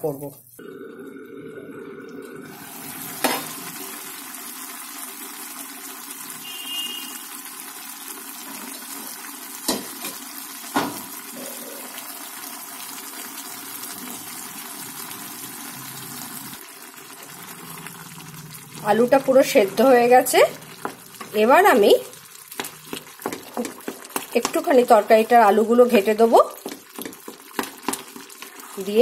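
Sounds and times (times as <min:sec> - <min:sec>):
water bubbling in a pan: 0:00.1 - 0:29.0.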